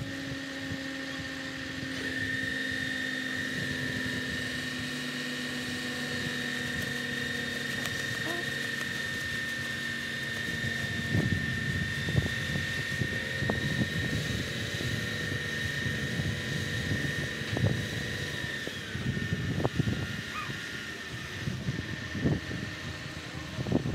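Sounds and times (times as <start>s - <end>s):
diesel engine running: 0.0s - 20.0s
steady high whine: 0.0s - 23.9s.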